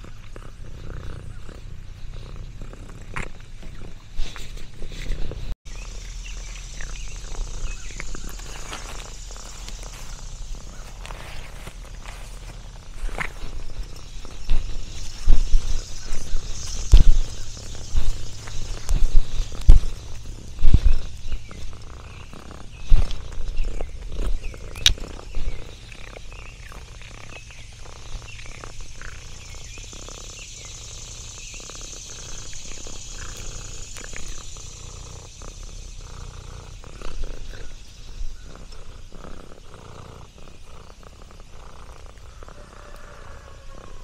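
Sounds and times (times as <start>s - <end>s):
cat purring: 0.0s - 44.0s.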